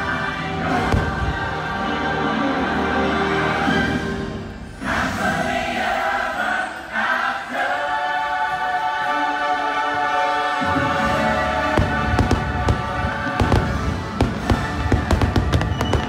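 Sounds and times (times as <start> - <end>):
choral music: 0.0 - 16.0.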